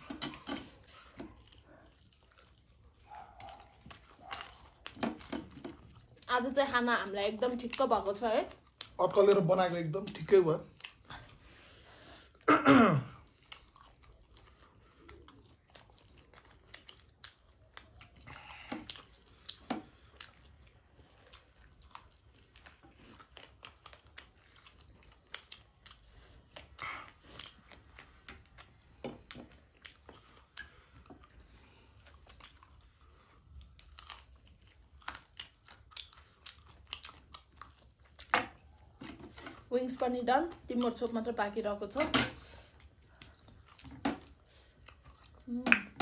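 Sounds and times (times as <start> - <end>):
chewing and biting food: 0.0 - 12.5, 13.1 - 41.6, 42.3 - 46.0.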